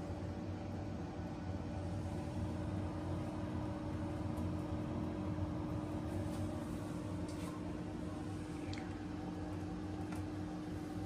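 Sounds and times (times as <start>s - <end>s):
ventilation machinery humming: 0.0s - 11.0s.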